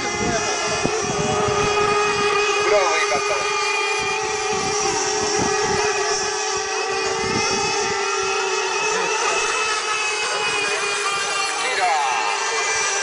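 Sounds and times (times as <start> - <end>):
model boat engines buzzing: 0.0 - 13.0.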